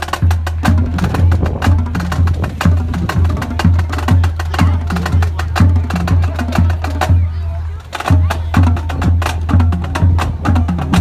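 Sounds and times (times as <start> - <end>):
snare drums march beat: 0.0 - 11.0.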